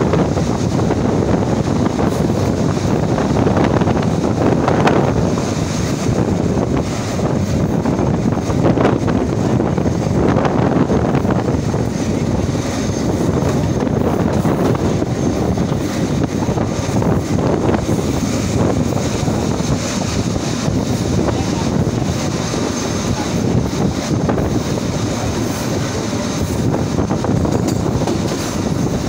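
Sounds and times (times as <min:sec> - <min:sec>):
train rumbling on track: 0:00.0 - 0:29.0
wind buffeting microphone: 0:00.0 - 0:29.0.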